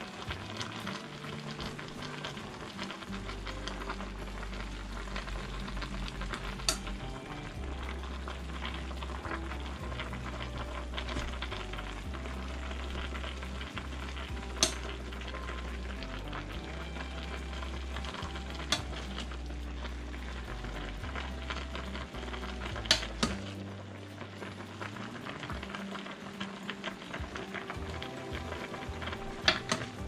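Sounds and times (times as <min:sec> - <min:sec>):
soup bubbling: 0:00.0 - 0:30.0.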